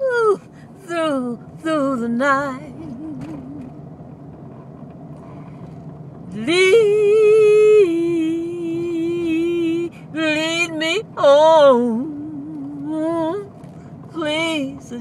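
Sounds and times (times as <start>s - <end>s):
woman singing a hymn unaccompanied: 0.0s - 3.9s, 6.3s - 15.0s.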